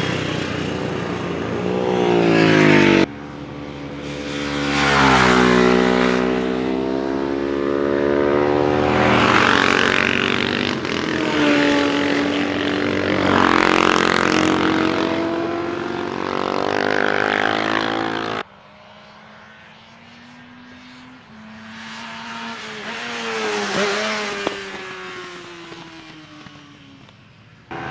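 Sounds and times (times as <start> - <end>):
faint distant motorcycle engine: 0.0 - 27.9
racing motorcycles revving past: 0.0 - 27.9.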